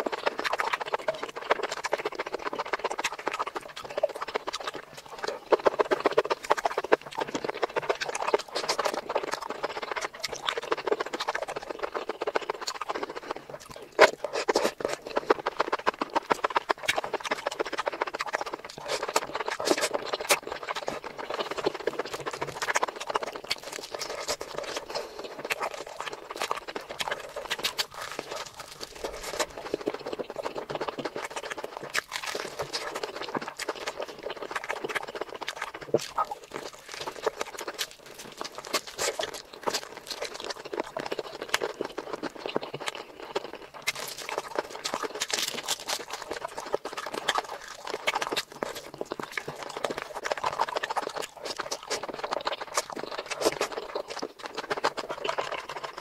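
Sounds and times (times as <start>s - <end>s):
chewing and lip smacking: 0.0s - 56.0s.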